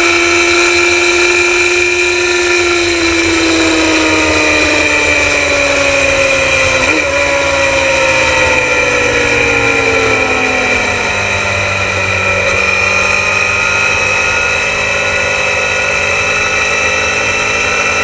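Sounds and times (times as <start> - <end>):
motorcycle racing engine: 0.0 - 18.0.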